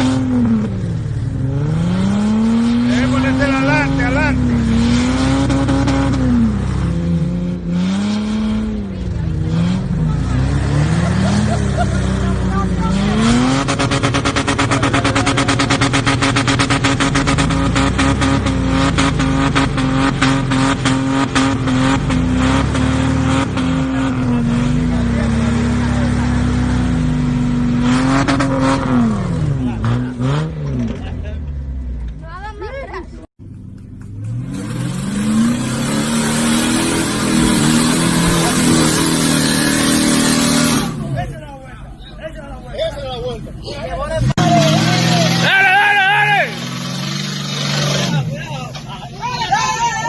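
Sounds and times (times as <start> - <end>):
off-road vehicle engine revving: 0.0 - 32.6, 33.3 - 50.0.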